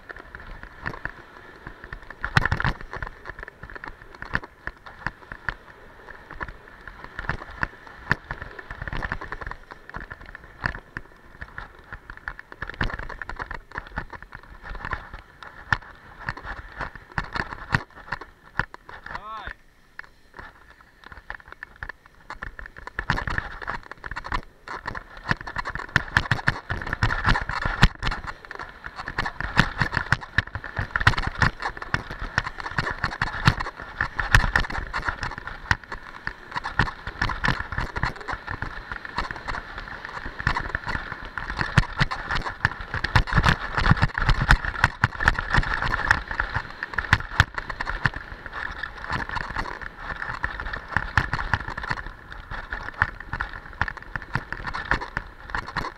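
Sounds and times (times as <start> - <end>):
clatter of small knocks: 0.0 - 19.3, 19.9 - 55.9
skis scraping over snow: 0.0 - 19.5, 20.1 - 55.9.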